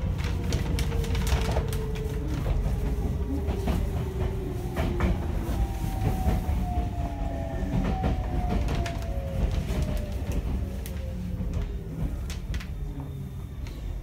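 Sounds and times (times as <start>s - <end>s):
train car rumble: 0.0s - 14.0s
wheels clacking on rail: 0.0s - 14.0s.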